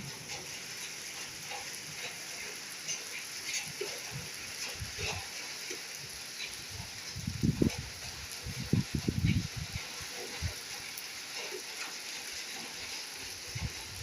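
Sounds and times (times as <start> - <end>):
raindrops ticking sharply: 0.0 - 14.0
steady rain: 0.0 - 14.0.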